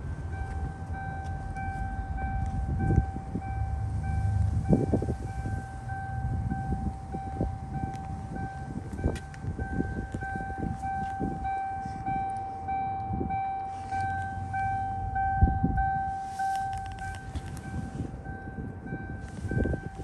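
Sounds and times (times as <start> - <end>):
car warning chime beeping: 0.2 - 20.0.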